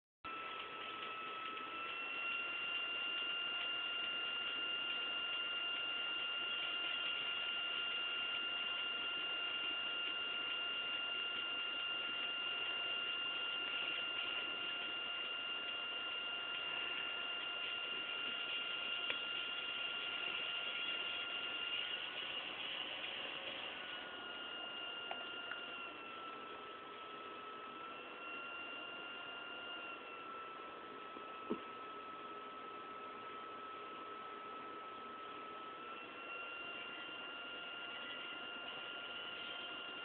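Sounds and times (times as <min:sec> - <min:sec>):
high-pitched whine: 0:00.3 - 0:32.8, 0:34.6 - 0:40.0.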